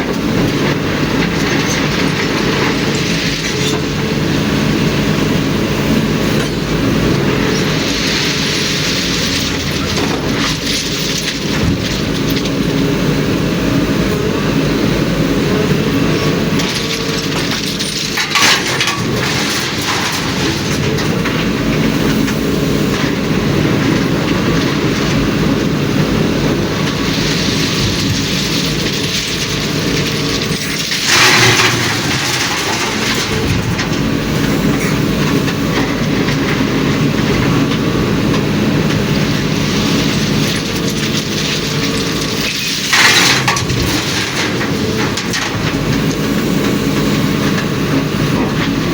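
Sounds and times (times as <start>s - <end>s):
diesel truck engine droning: 0.0s - 48.9s.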